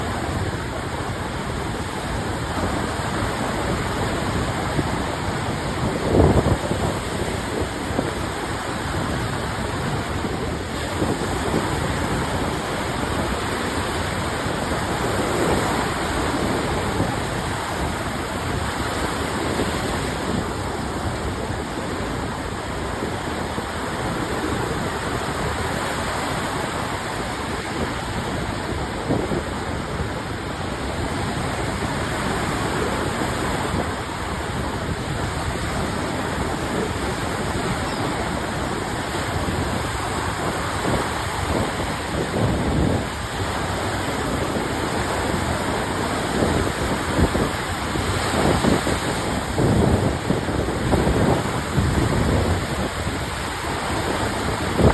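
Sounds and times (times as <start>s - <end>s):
waves washing onto shore: 0.0s - 54.9s.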